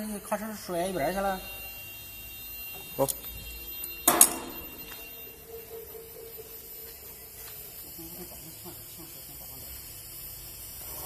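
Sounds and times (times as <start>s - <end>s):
faint ringing tone: 0.0s - 8.9s.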